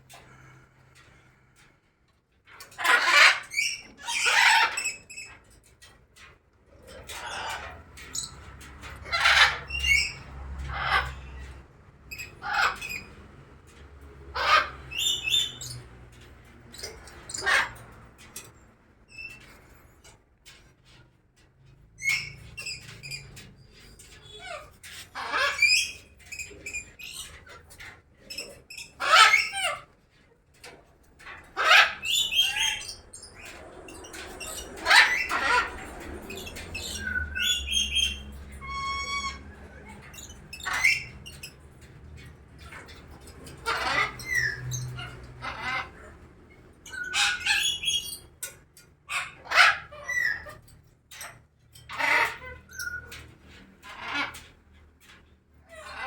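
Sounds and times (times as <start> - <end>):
birds squawking and chirping: 0.0 - 1.9, 2.5 - 56.0.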